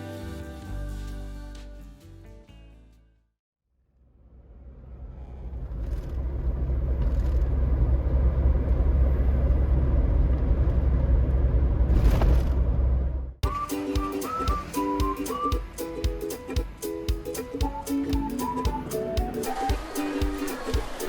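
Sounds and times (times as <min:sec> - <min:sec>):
low engine rumble: 0:04.0 - 0:21.0.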